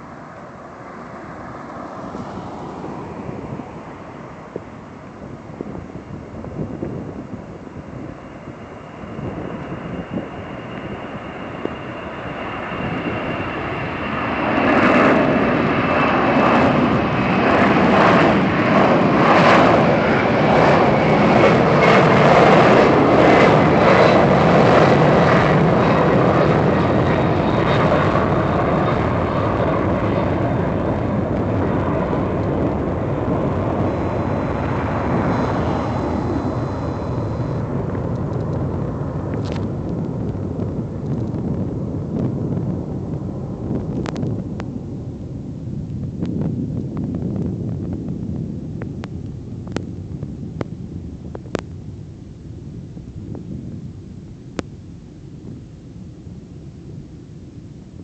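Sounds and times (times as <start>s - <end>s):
high jet whine falling in pitch: 0.0s - 58.0s
jet engines roaring: 0.0s - 58.0s.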